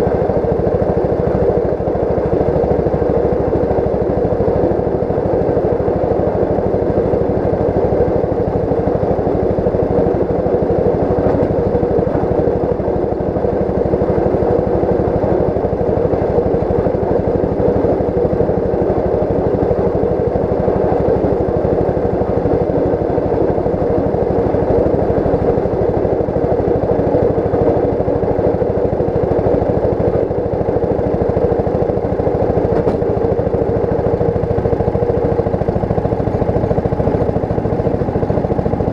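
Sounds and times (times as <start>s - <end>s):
small engine drone: 0.0s - 38.9s
steel wheels rumbling on rails: 0.0s - 38.9s.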